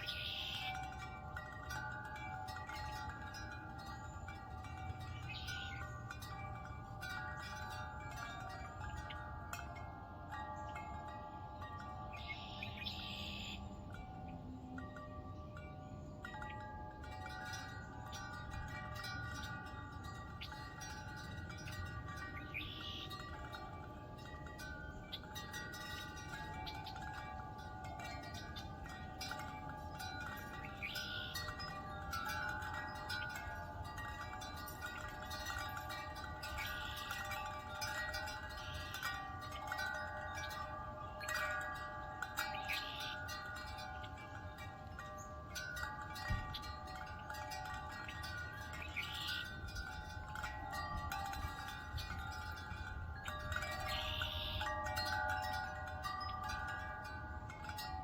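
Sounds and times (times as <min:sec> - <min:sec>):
wind chimes ringing: 0:00.0 - 0:58.0.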